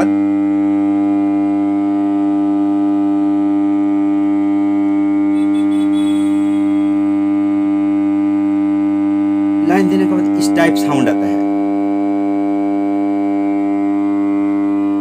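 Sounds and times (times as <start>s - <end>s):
speaker mains hum: 0.0s - 15.0s.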